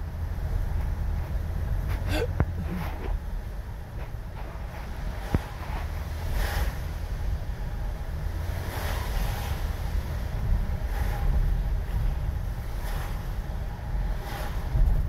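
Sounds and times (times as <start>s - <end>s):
road rumble inside car: 0.0s - 15.0s
tyre swish on wet road: 0.5s - 15.0s.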